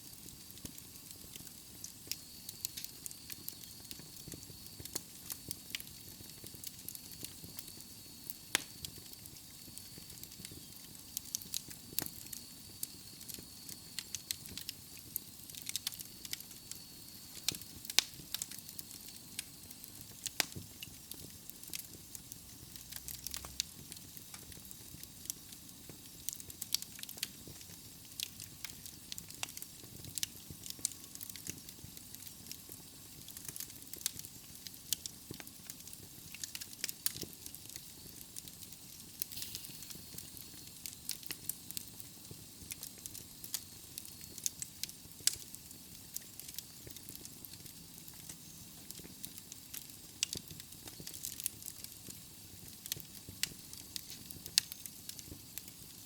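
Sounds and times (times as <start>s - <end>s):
logs crackling in fireplace: 0.0s - 56.0s.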